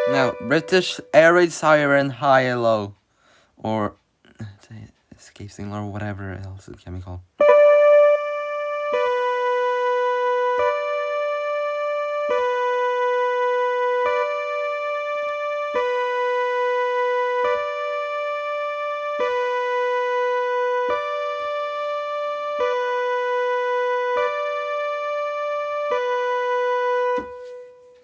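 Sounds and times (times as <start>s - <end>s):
keyboard imitating two-tone siren: 0.0s - 2.2s, 7.4s - 28.0s.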